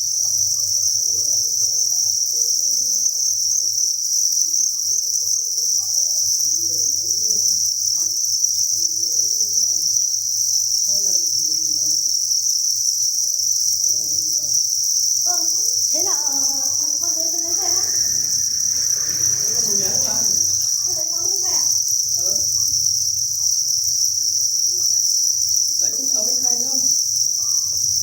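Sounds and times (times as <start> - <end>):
crickets chirping in chorus: 0.0 - 28.0.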